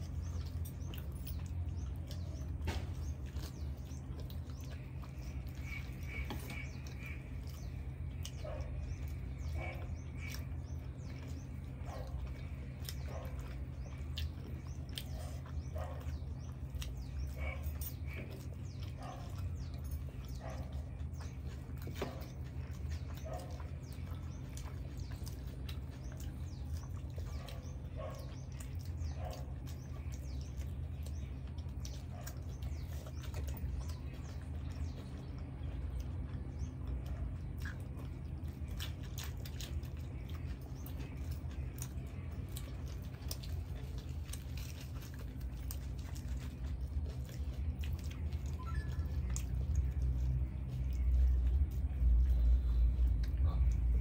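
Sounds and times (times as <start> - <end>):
chewing food: 0.0 - 54.0
steady low hum: 0.0 - 54.0.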